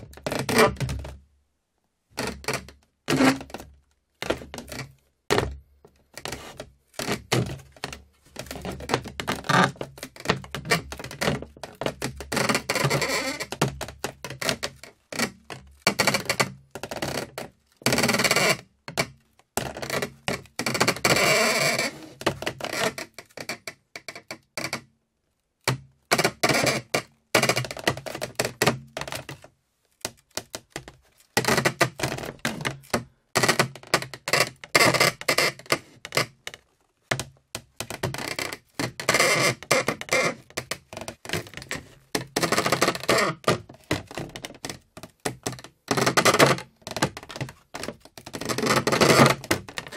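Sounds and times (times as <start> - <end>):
wood creaking and cracking: 2.2 - 19.0, 19.6 - 24.8, 26.2 - 49.9.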